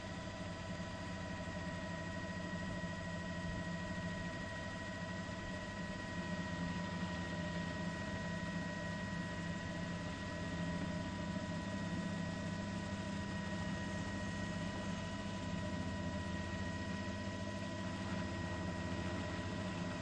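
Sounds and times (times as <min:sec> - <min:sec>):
helicopter cabin drone: 0:00.0 - 0:20.0.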